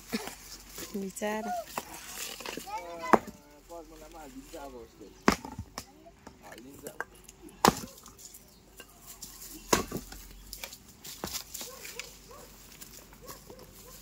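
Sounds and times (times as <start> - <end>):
hand tools striking earth and stone: 0.0 - 3.5, 5.2 - 14.0.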